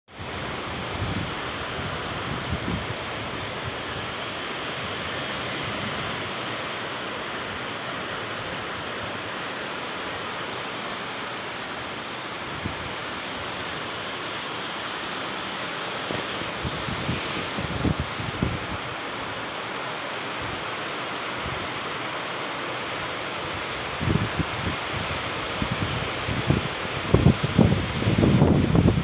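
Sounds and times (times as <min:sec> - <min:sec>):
heavy rain on concrete roof: 0:00.1 - 0:29.0.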